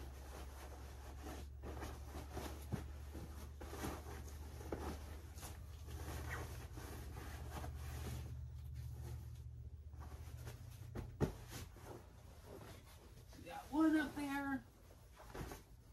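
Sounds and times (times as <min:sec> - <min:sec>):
fabric rustling and scuffing: 0:00.0 - 0:15.9.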